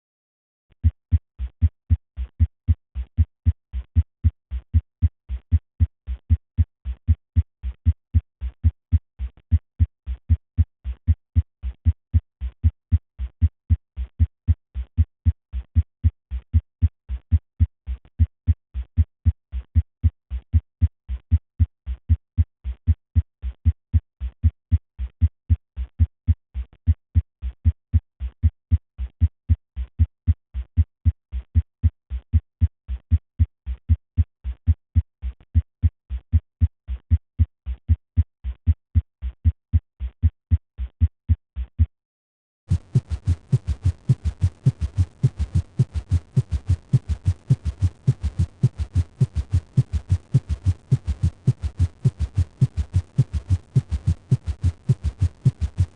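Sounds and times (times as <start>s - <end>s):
heartbeat through a stethoscope: 0.8s - 41.9s, 42.7s - 55.9s.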